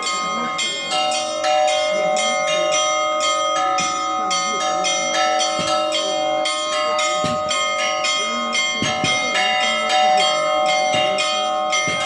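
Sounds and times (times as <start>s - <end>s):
heavy low bell stroke: 0.0s - 12.0s
small bells struck rapidly: 0.0s - 12.0s.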